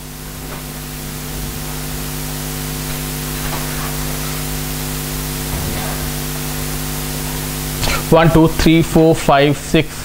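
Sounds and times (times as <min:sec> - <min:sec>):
constant even hiss: 0:00.0 - 0:10.0
low held hum tones: 0:00.0 - 0:10.0.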